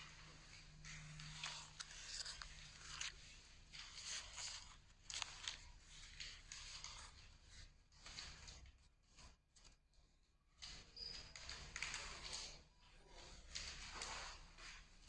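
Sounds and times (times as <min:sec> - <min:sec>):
paper rustling and crinkling: 0:00.0 - 0:09.8, 0:10.6 - 0:15.0.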